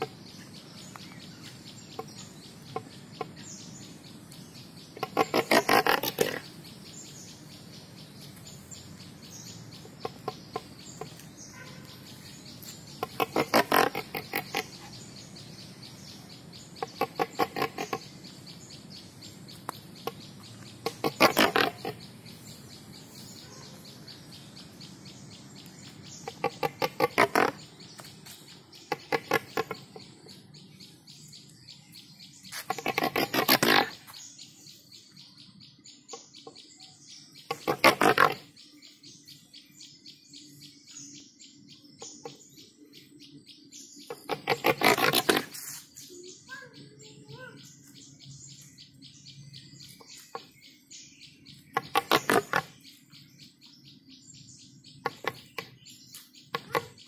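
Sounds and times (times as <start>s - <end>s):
bird chattering calls: 0.0s - 35.4s, 36.0s - 39.5s, 40.6s - 57.0s.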